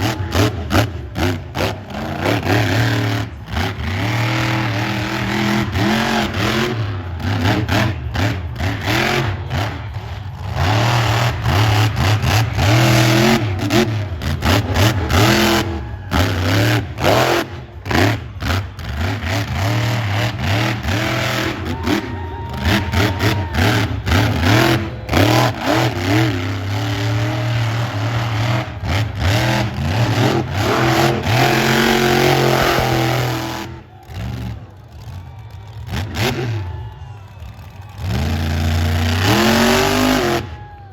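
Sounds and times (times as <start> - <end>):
monster truck engine revving: 0.0 - 40.9.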